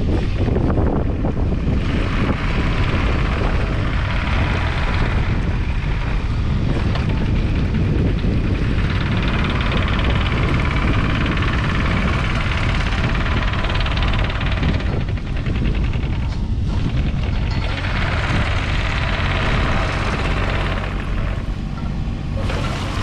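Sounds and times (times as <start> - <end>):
excavator diesel engine running: 0.0 - 23.0
excavator track noise: 0.0 - 23.0.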